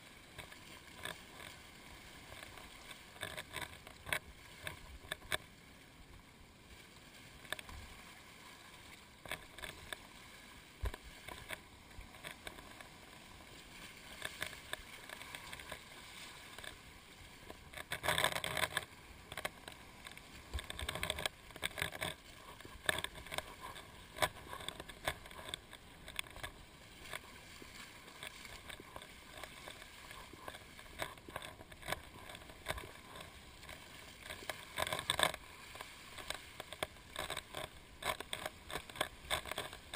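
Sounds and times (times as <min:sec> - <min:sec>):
seawater lapping and splashing: 0:00.0 - 0:39.9.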